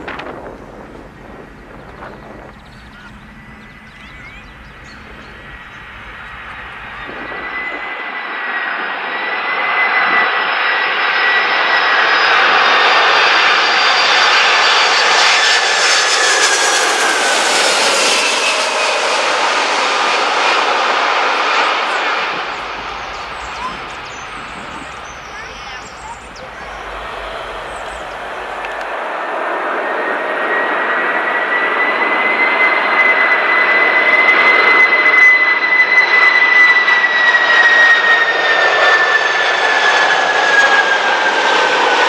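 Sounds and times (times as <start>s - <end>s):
jet airliner passing overhead: 0.0s - 42.0s
jet engine whine: 0.0s - 42.0s.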